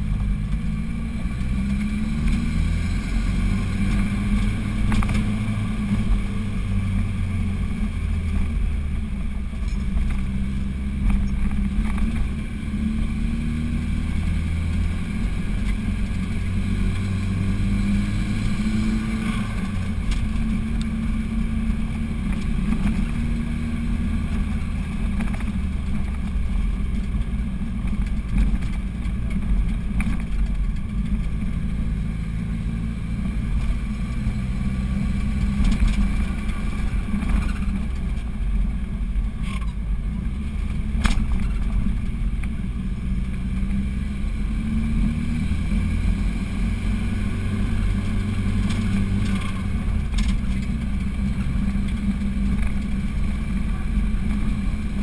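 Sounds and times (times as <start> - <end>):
car engine under load: 0.0 - 55.0.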